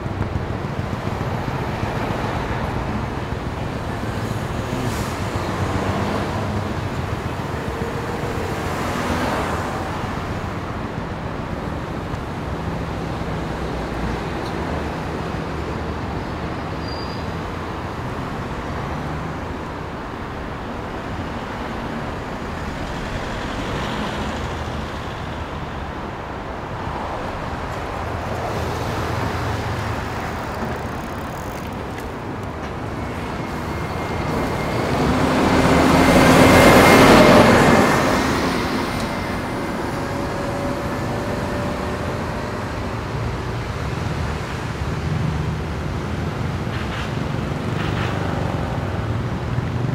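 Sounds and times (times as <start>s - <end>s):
city road traffic: 0.0s - 49.9s.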